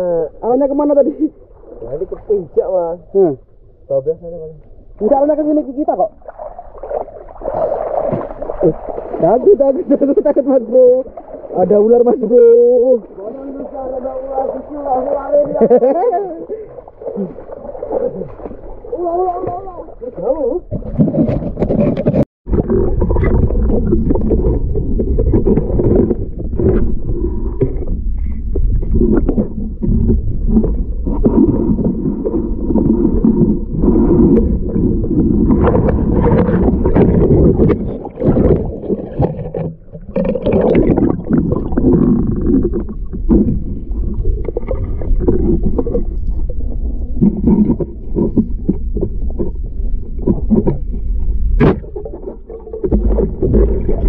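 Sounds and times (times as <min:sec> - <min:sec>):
underwater rumbling and sloshing: 0:00.0 - 0:54.0.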